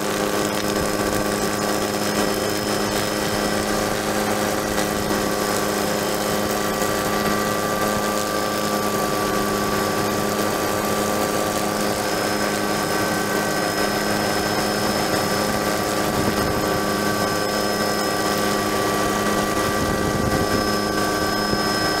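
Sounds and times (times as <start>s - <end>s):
helicopter engine and rotors: 0.0s - 22.0s
high whining tones: 0.0s - 22.0s.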